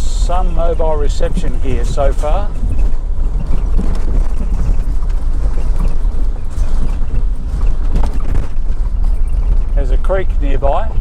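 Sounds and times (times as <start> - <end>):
vehicle driving on gravel: 0.0 - 11.0.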